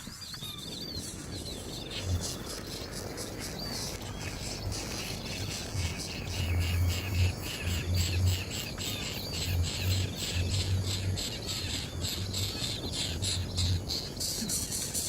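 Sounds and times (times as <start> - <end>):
small birds chirping: 0.0 - 15.0
low humming drone: 0.7 - 15.0.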